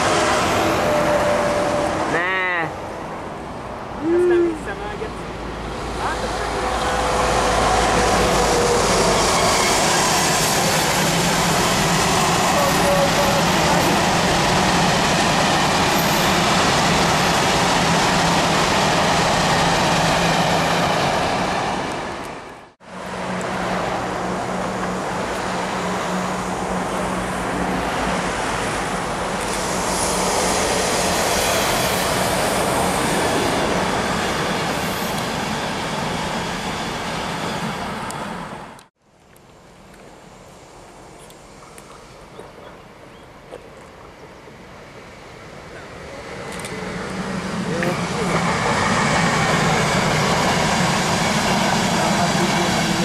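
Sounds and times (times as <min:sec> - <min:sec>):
freight train wheels rumbling on rail: 0:00.0 - 0:04.0, 0:04.7 - 0:38.9, 0:39.8 - 0:53.0
road traffic noise: 0:00.0 - 0:53.0.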